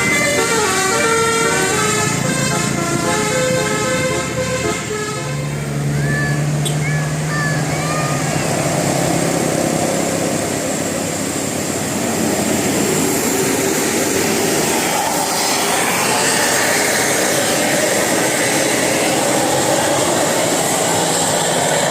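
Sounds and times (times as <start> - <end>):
bus passing: 0.0 - 21.9.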